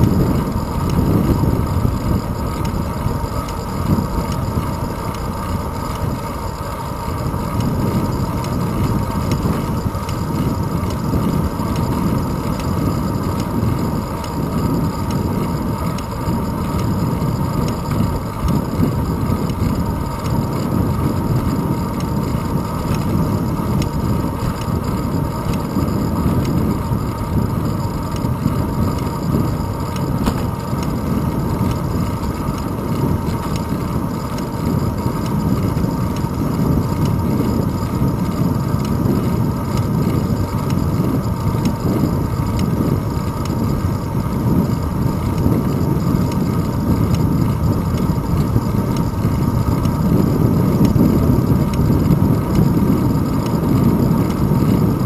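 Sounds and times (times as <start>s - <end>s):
bicycle rolling over asphalt: 0.0s - 55.0s
wind on the microphone: 0.0s - 55.0s.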